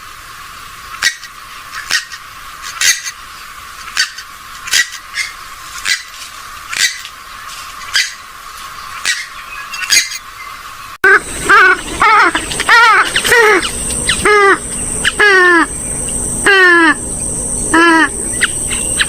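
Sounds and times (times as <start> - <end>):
bird squawking calls: 0.9 - 3.2, 3.8 - 19.0.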